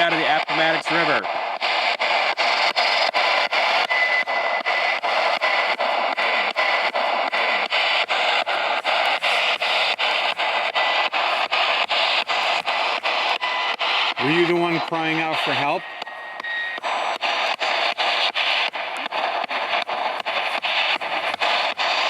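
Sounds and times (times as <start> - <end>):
radio static blips: 0.0 - 22.0.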